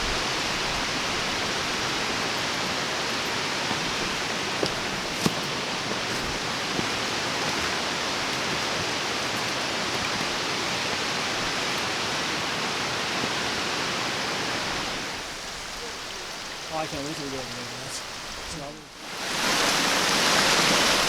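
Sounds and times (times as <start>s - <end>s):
rushing stream water: 0.0s - 21.0s.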